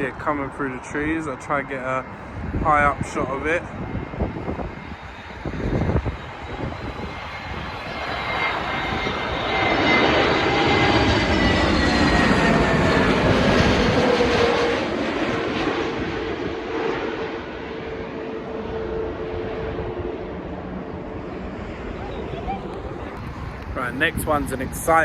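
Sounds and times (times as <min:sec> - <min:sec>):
jet airliner passing overhead: 0:00.0 - 0:25.0.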